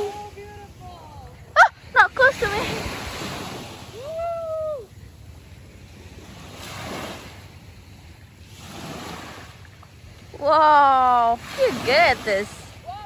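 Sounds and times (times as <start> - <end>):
surf washing on shore: 0.0 - 13.0.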